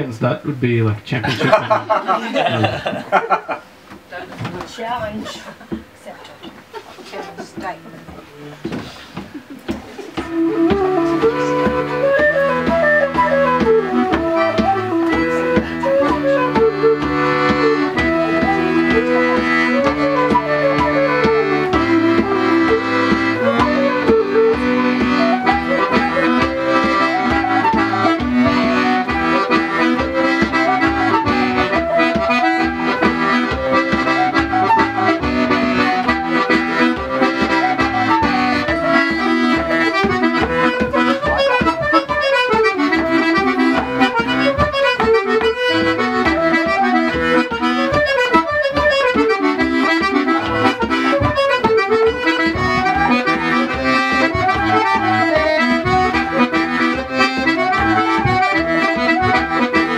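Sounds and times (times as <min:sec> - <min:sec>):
button accordion: 0:07.0 - 0:59.9
flute melody: 0:10.1 - 0:59.9.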